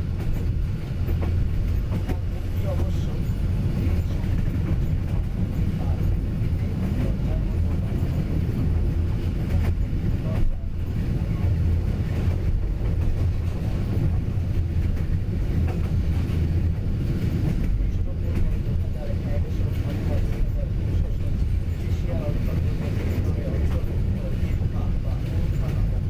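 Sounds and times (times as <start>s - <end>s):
train rumbling on tracks: 0.0s - 26.0s
faint rail clicks: 0.1s - 26.0s.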